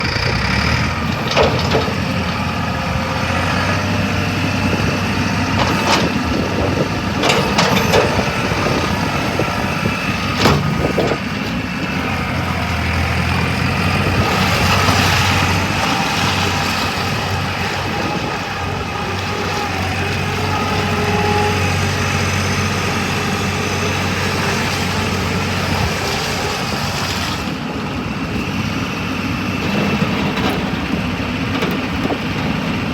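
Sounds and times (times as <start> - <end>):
skid steer loader engine running: 0.0 - 32.9.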